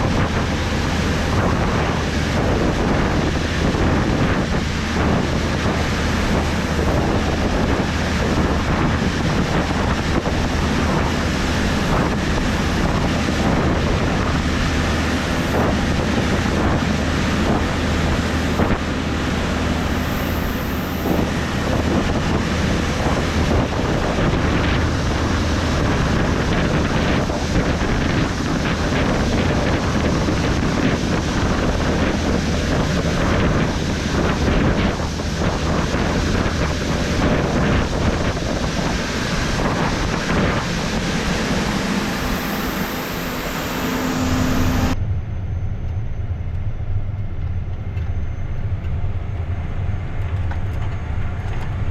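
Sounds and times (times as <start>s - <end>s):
low engine hum: 0.0s - 51.9s
rushing machinery noise: 0.0s - 51.9s.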